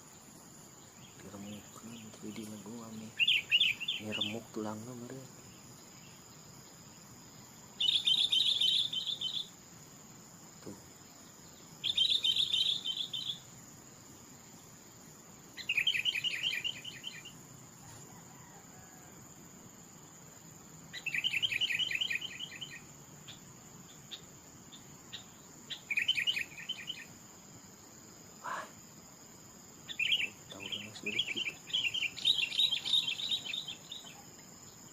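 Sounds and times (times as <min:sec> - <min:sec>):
faint high insect drone: 0:00.0 - 0:34.9
songbird singing: 0:00.0 - 0:34.9.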